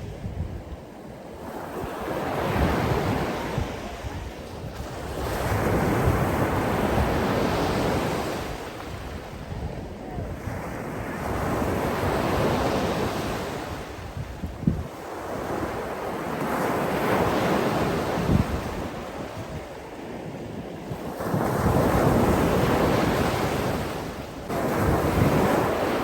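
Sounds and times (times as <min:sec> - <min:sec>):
sea waves washing ashore: 0:00.0 - 0:26.0
wind buffeting microphone: 0:00.0 - 0:26.0.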